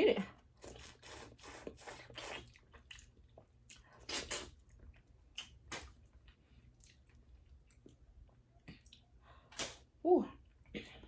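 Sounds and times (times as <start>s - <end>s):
wet chewing and mouth smacks: 0.6s - 9.8s.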